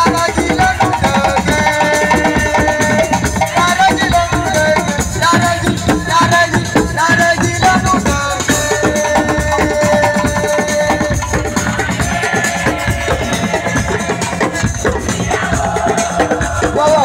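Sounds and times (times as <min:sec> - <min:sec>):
drum and shaker percussion: 0:00.0 - 0:17.0.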